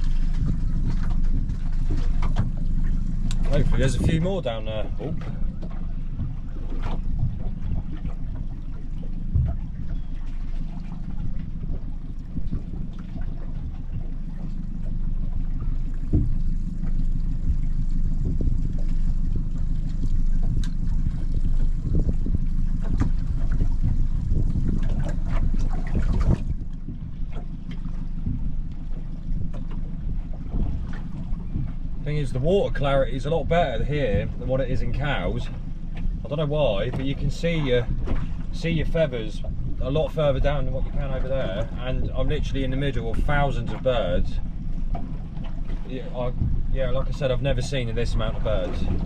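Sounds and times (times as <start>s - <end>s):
water lapping on boat hull: 0.0s - 49.0s
wind rumbling on microphone: 0.0s - 49.0s.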